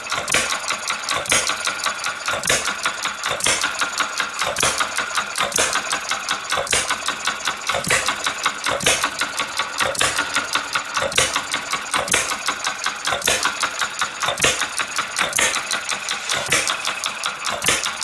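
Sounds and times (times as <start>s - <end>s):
engine knock: 0.0s - 18.0s
model engine clicking: 0.0s - 18.0s.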